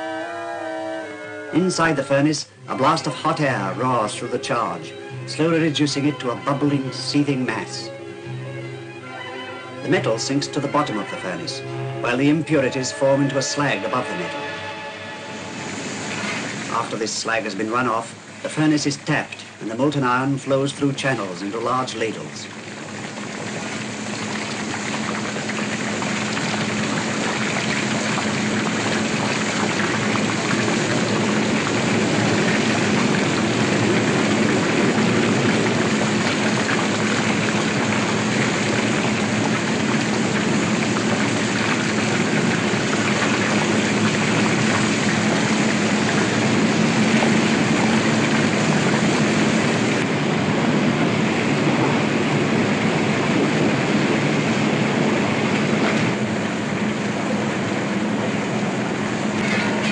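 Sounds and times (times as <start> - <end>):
low industrial hum: 0.0 - 59.9.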